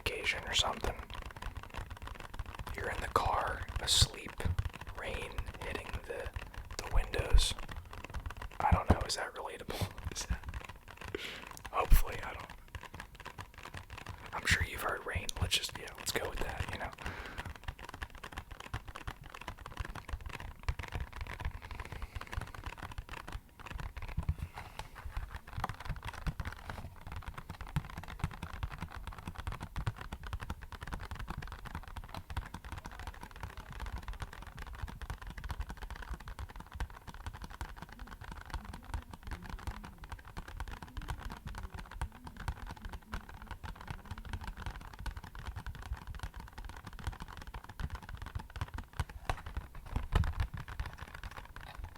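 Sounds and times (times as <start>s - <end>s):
fast tapping on empty box: 0.0s - 51.9s.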